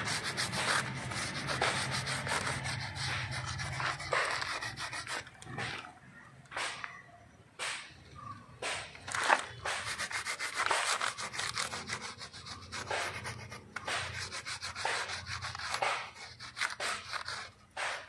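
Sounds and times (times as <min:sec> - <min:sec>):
coconut husk rasping on bark: 0:00.0 - 0:05.8, 0:09.2 - 0:18.0.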